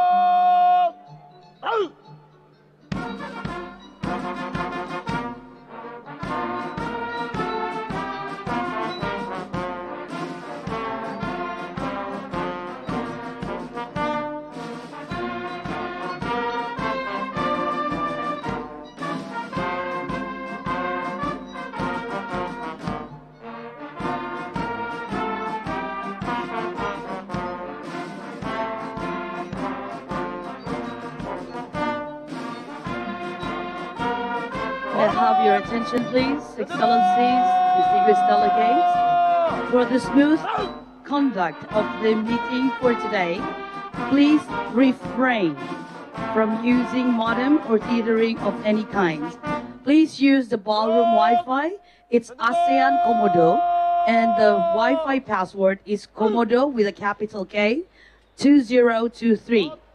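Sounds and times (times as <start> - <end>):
brass band playing: 3.2 - 51.6, 52.3 - 55.3.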